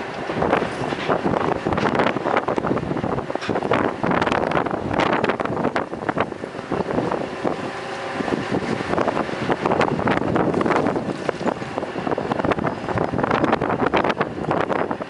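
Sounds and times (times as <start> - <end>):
heavy mining machinery running: 0.0 - 15.0
wind buffeting microphone: 0.0 - 15.0.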